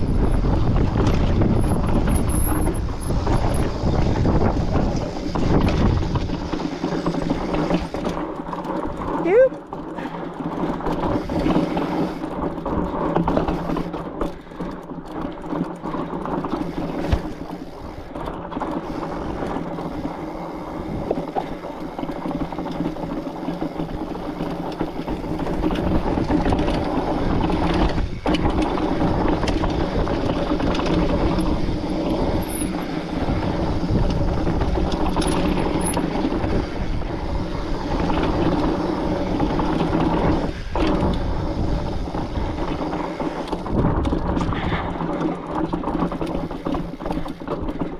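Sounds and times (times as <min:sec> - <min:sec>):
bike freewheel ratcheting buzz: 0:00.0 - 0:47.9
bike tyre and frame rattle: 0:00.0 - 0:47.9.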